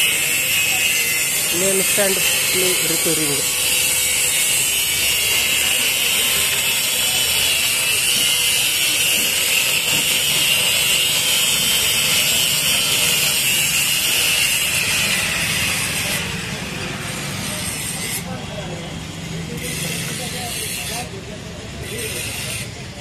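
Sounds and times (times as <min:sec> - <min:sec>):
angle grinder grinding steel: 0:00.0 - 0:18.5, 0:19.4 - 0:23.0.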